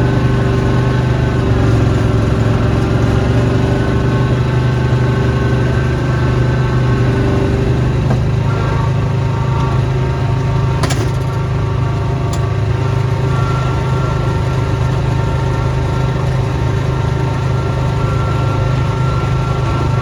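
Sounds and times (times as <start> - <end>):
snowblower engine running: 0.0 - 20.0.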